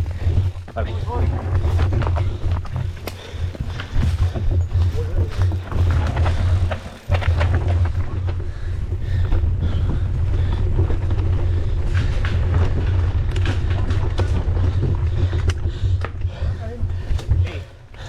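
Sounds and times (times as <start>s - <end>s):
bike rattles and clicks: 0.0s - 18.0s
tyres rumbling on dirt: 0.0s - 18.0s.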